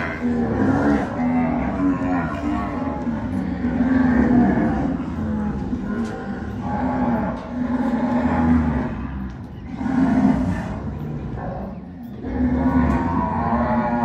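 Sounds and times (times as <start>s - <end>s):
cattle mooing: 0.0s - 11.3s, 12.2s - 14.0s.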